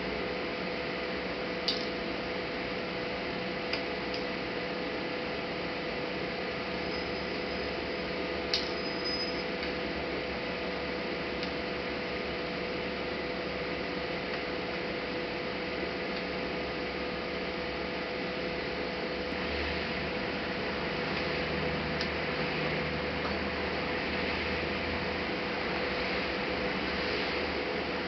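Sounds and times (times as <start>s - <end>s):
steady hiss and hum: 0.0s - 28.0s.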